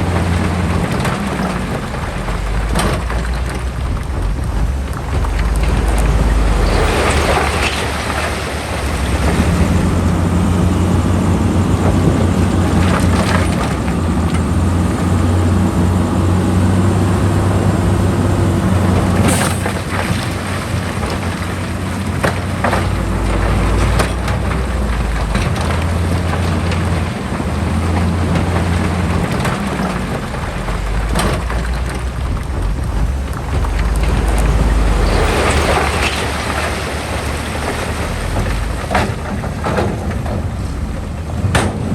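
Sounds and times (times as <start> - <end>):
clanks and knocks: 0.0 - 15.9, 16.6 - 41.9
heavy diesel machinery running: 0.0 - 41.9.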